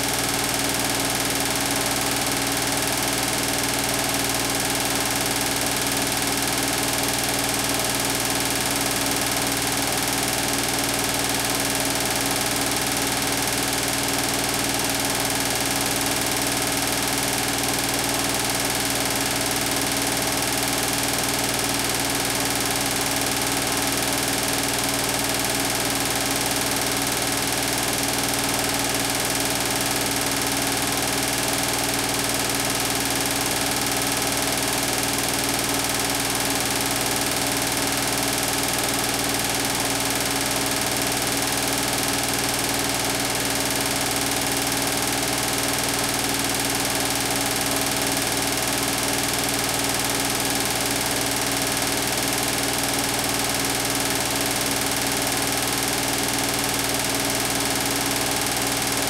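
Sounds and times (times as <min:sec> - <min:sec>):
washing machine humming: 0:00.0 - 0:59.0.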